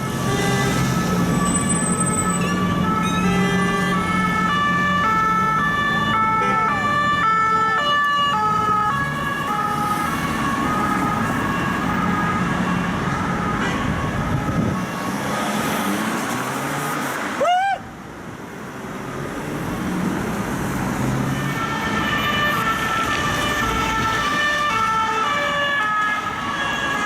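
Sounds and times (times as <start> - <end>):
police two-tone sirens: 0.0 - 15.8, 21.0 - 27.0
traffic and engine noise: 0.0 - 27.0.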